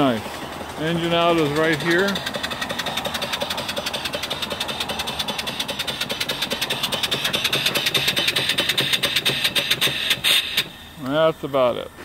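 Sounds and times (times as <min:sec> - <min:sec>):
steam engine exhaust beating: 0:00.0 - 0:12.0
steam hiss: 0:00.0 - 0:12.0.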